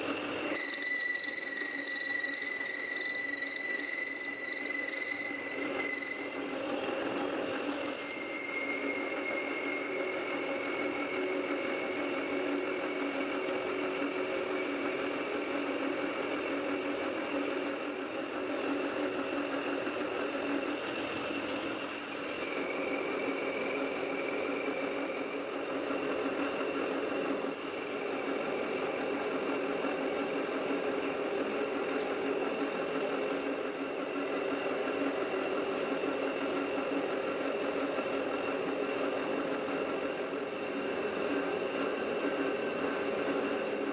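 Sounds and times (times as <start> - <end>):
high-pitched cutting whine: 0.0 - 43.9
metal lathe hum: 0.0 - 43.9.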